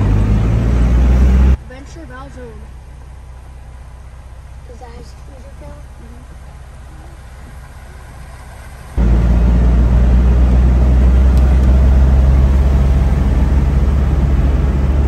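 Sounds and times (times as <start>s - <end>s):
diesel engine drone: 0.0s - 15.0s
tyre and road noise: 0.0s - 15.0s.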